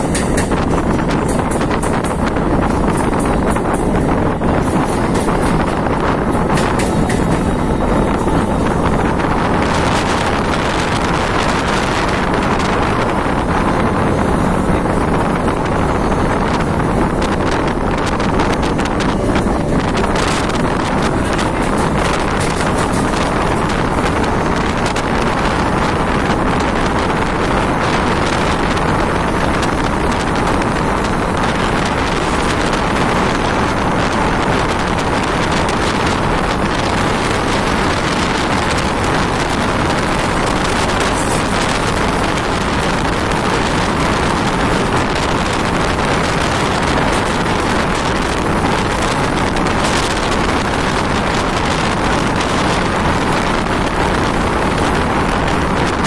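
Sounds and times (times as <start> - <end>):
train wheels rushing on track: 0.0 - 56.0
wind on microphone: 0.0 - 56.0.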